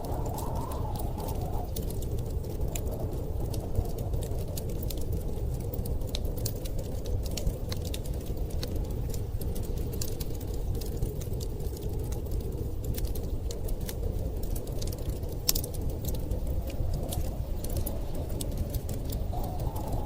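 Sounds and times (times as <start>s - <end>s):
storm wind rumbling: 0.0s - 20.0s
wood fire crackling and popping: 0.0s - 20.0s.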